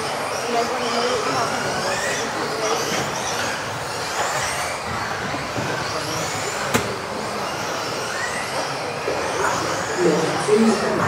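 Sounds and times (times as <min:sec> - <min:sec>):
electric rc car motors whining: 0:00.0 - 0:11.0.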